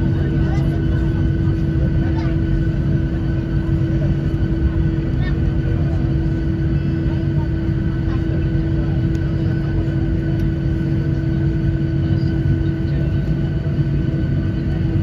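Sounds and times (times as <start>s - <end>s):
constant hum: 0.0s - 15.0s
jet engines rumbling: 0.0s - 15.0s.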